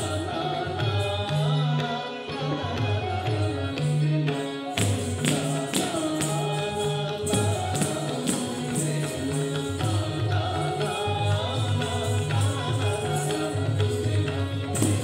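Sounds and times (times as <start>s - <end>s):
jingling metal percussion: 0.0s - 15.0s
person singing: 0.0s - 15.0s.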